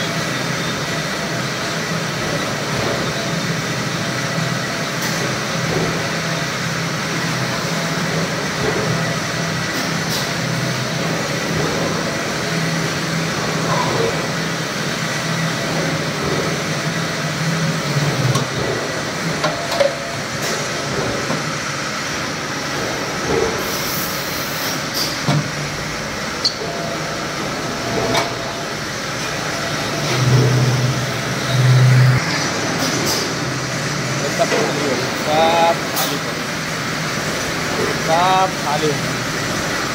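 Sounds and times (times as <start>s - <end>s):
metal-cutting band saw running: 0.0s - 39.9s.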